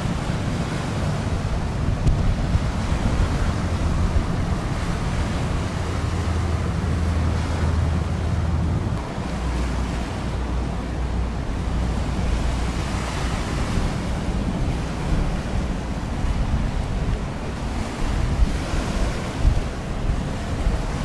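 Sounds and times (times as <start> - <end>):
choppy sea washing: 0.0 - 21.0
wind buffeting microphone: 0.0 - 21.0.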